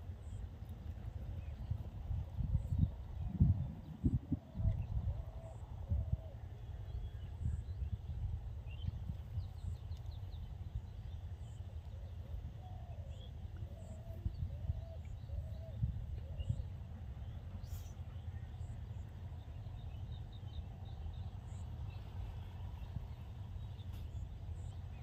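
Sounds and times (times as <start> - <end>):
birds chirping: 0.0 - 25.0
low curving bird calls: 0.0 - 25.0
steady low rumble: 0.0 - 25.0.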